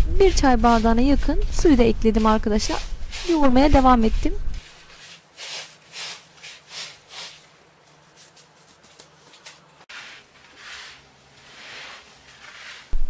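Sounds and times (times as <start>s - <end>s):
hands kneading wet salt: 0.0s - 13.0s.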